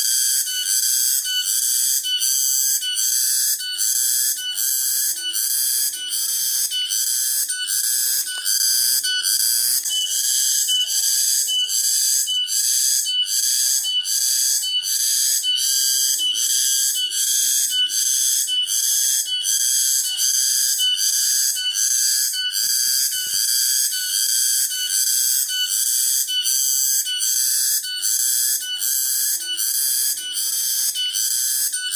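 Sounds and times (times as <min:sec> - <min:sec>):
cicadas buzzing: 0:00.0 - 0:31.9.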